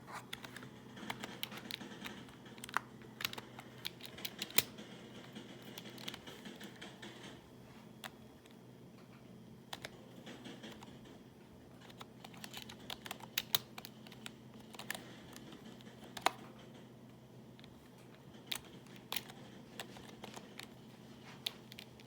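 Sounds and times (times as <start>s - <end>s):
typing on keyboard: 0.2s - 7.4s, 9.7s - 16.8s, 17.6s - 22.0s.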